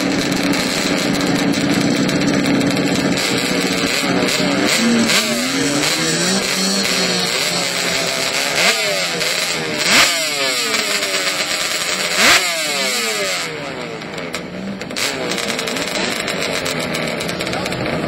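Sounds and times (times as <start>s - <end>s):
engines revving and accelerating: 0.0s - 18.0s.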